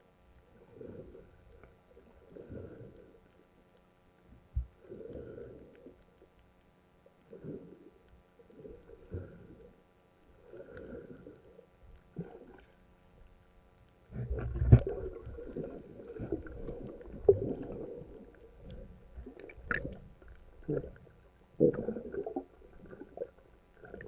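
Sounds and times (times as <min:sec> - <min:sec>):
faint steady hum: 0:00.0 - 0:24.0
underwater water swishes: 0:00.0 - 0:24.0.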